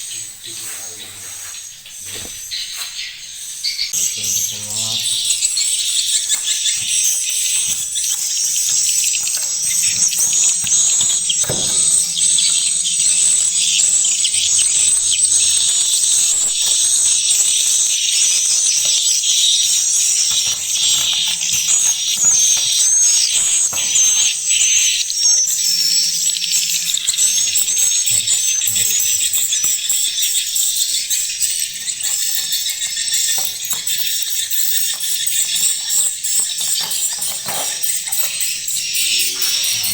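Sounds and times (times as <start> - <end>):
swiftlets chirping and twittering: 0.0 - 39.9.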